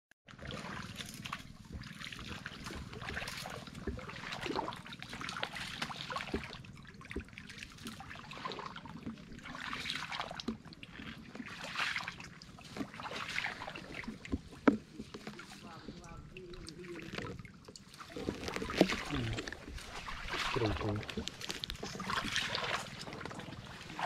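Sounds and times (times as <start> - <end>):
legs sloshing through water: 0.3 - 24.0.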